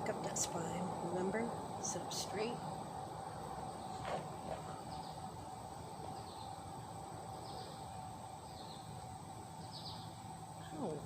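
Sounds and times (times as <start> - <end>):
steady background hum: 0.0 - 11.0
small birds chirping: 2.0 - 11.0.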